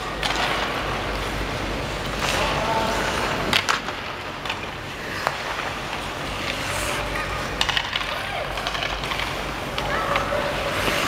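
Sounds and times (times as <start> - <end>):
hockey sticks knocking puck: 0.0 - 1.4, 2.0 - 11.0
skates scraping on ice: 0.0 - 11.0.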